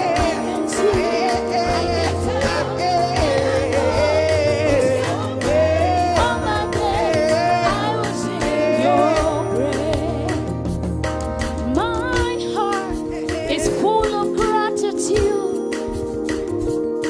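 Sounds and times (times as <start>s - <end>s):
instrumental backing: 0.0s - 17.0s.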